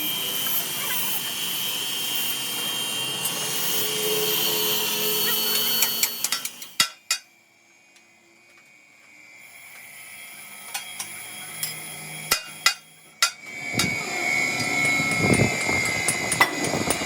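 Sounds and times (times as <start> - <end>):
high machine whine: 0.0 - 17.0.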